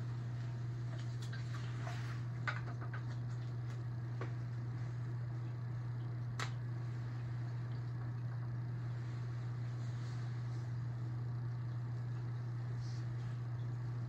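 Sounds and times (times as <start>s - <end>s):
aquarium filter hum: 0.0s - 14.0s.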